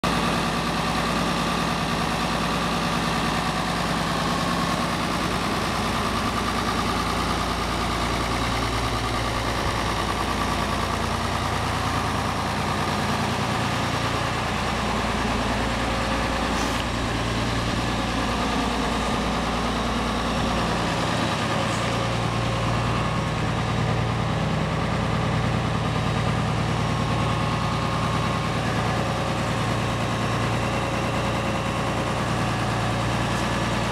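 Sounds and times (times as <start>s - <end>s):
diesel tractor engine idling: 0.0s - 33.9s.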